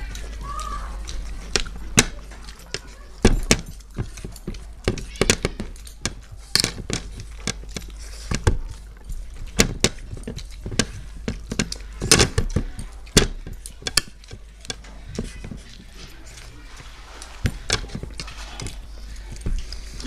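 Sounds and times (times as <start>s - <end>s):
chewing and mouth noises: 0.0s - 20.0s
clinks and knocks of eating: 0.0s - 20.0s.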